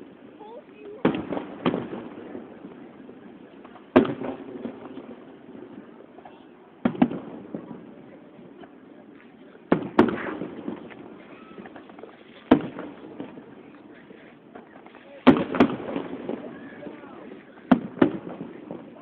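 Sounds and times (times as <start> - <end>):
fireworks booming: 0.0 - 19.0.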